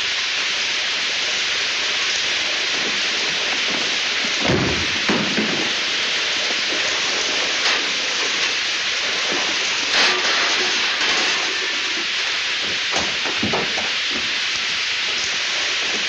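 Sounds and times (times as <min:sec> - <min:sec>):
water spraying under pressure: 0:00.0 - 0:16.0.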